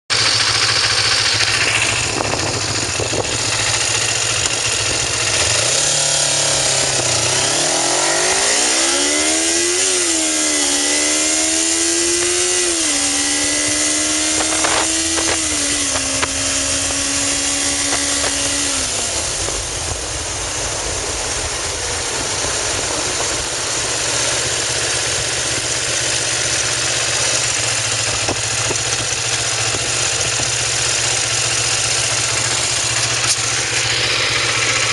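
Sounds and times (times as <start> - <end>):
motorcycle engine: 0.1 - 34.9
steady rushing noise: 0.8 - 34.9.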